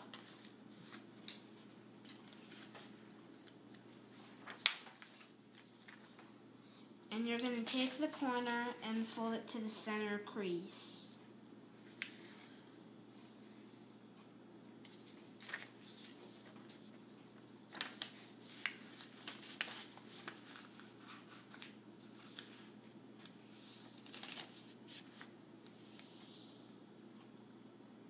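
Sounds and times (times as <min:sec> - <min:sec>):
paper rustling and creasing: 0:00.0 - 0:06.4, 0:07.2 - 0:09.2, 0:11.8 - 0:26.7.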